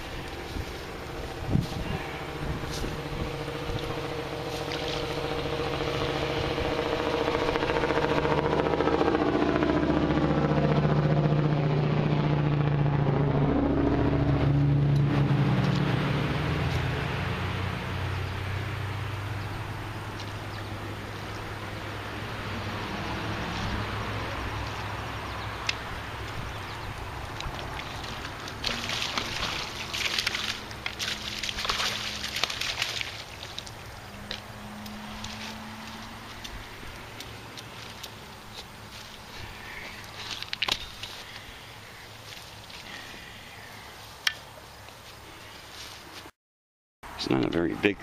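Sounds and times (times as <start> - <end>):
vehicle engine passing by: 0.0 - 43.6.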